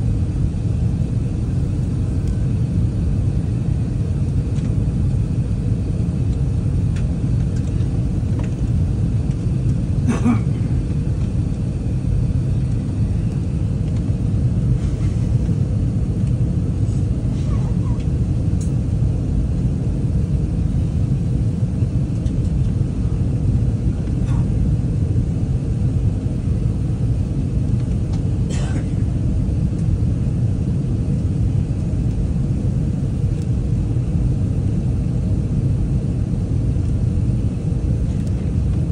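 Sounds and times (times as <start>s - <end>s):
engine and airflow rumble: 0.0s - 38.9s.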